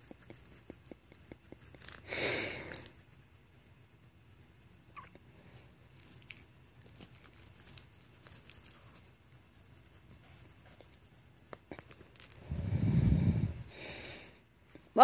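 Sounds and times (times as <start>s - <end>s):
hand rubbing dog fur: 0.0s - 14.2s.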